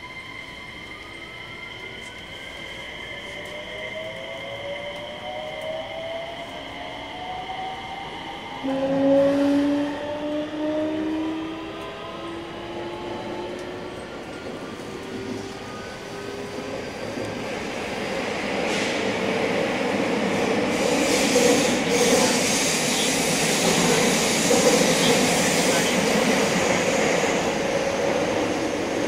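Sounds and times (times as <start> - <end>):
train wheels rumbling: 1.7 - 29.0.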